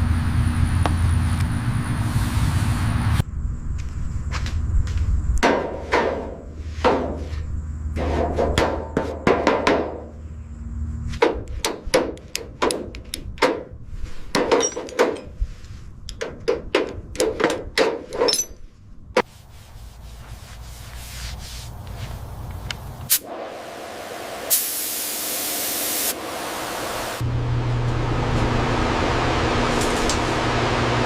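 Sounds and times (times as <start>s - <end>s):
steady low hum: 0.0s - 16.2s, 18.4s - 31.0s.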